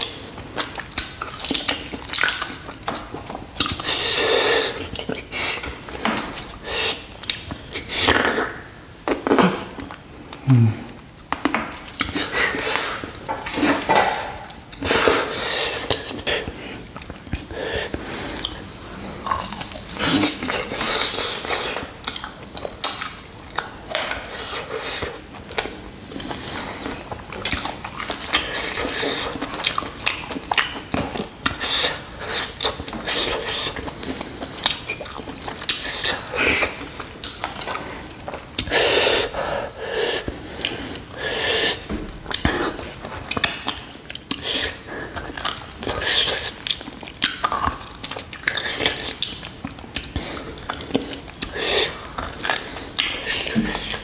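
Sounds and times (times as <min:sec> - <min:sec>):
man chewing and sucking meat: 0:00.0 - 0:54.0.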